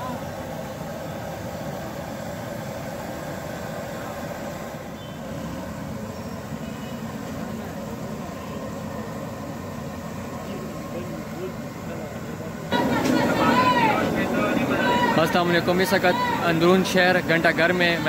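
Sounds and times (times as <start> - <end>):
street traffic din: 0.0 - 18.0.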